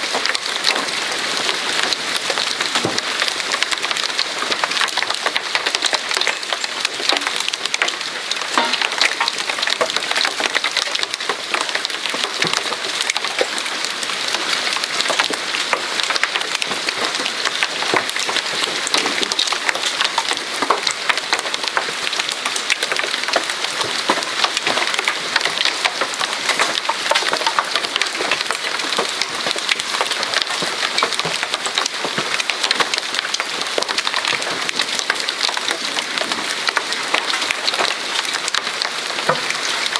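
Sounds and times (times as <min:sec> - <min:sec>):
hail pelting down: 0:00.0 - 0:39.9.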